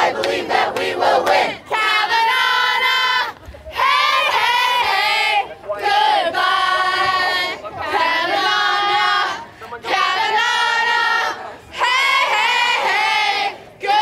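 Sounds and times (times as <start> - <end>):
group singing held notes: 0.0 - 14.0
protesters chanting: 0.0 - 14.0.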